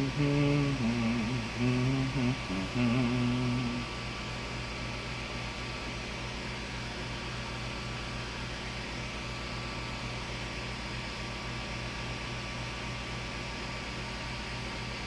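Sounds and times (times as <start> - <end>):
cooling fans whirring: 0.0 - 15.0
low electrical hum: 0.0 - 15.0.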